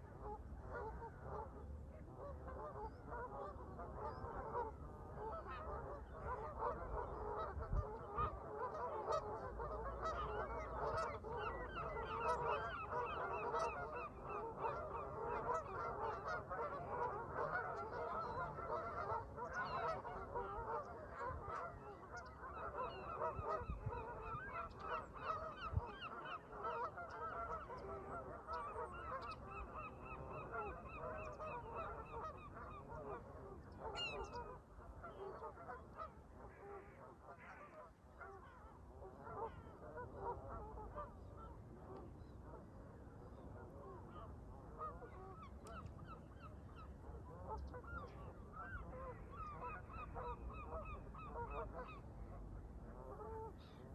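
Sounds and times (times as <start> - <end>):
geese honking and chattering: 0.0 - 53.9.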